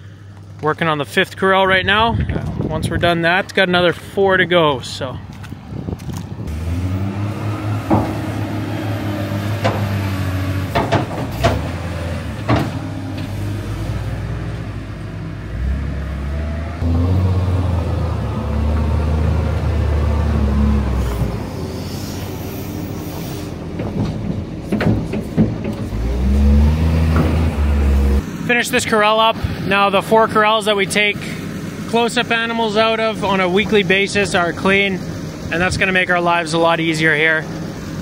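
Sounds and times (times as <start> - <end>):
diesel engines running: 0.0 - 38.0.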